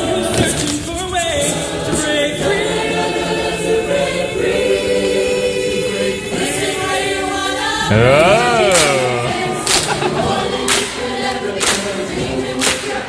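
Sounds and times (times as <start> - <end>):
barbershop chorus singing: 0.0 - 13.0.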